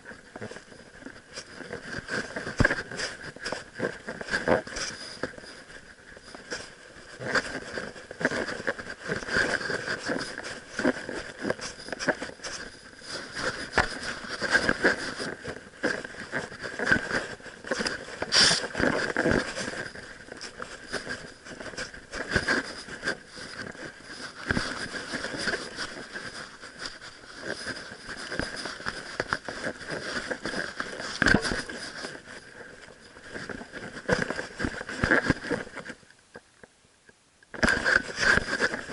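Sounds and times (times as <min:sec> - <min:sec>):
camera rubbing and scraping: 0:00.0 - 0:36.0, 0:37.5 - 0:38.9.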